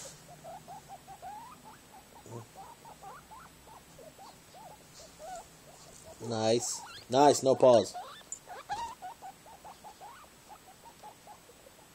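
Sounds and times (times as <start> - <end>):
guinea pig squeaking: 0.0 - 11.9.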